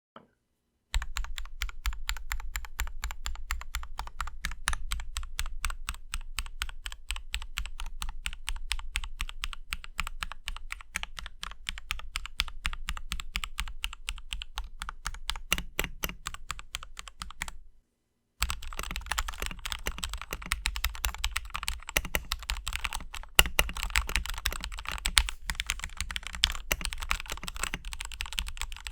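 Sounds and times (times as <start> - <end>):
fast mechanical keyboard typing: 1.0 - 17.6, 18.4 - 28.9.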